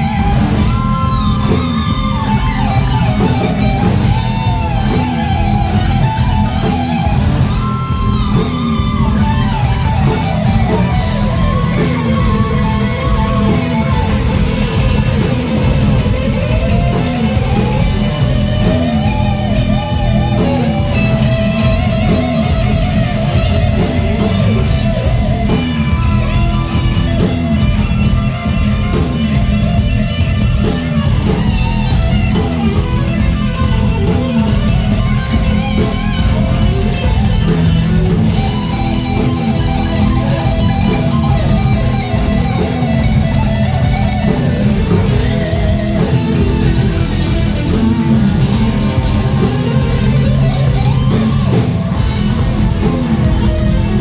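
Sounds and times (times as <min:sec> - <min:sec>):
bass and drums: 0:00.0 - 0:54.0
electric lead guitar: 0:00.0 - 0:54.0.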